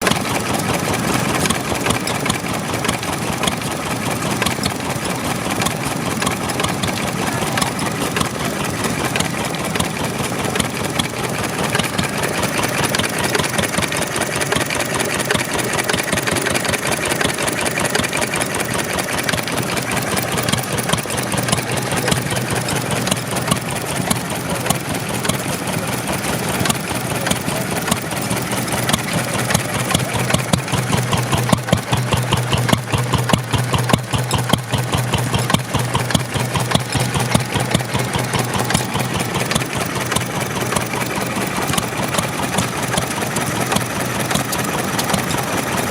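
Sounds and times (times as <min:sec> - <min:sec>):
stationary engine running: 0:00.0 - 0:45.9.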